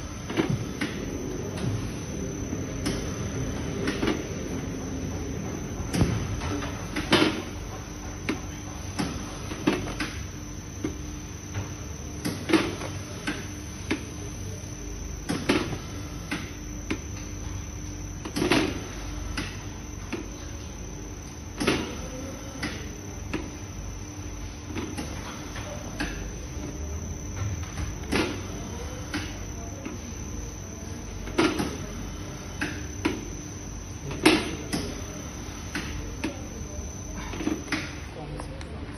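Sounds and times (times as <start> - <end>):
dough-cutting machine motor hum: 0.0 - 38.9.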